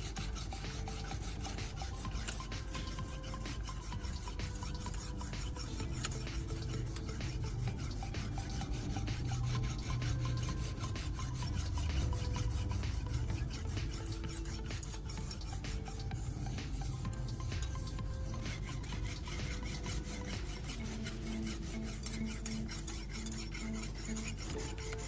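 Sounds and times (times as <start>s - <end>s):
knife scraping on sandpaper: 0.0s - 25.0s.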